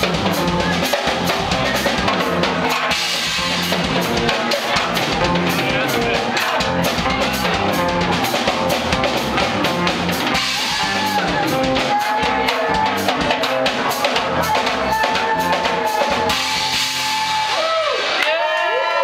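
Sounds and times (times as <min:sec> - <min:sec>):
held guitar notes: 0:00.0 - 0:17.3
bass guitar: 0:00.0 - 0:18.0
drum kit beat: 0:00.0 - 0:18.4.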